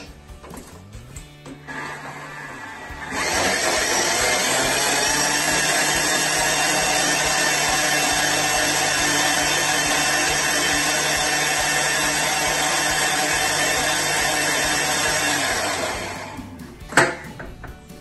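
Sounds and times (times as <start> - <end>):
food processor motor blending: 1.6 - 16.6.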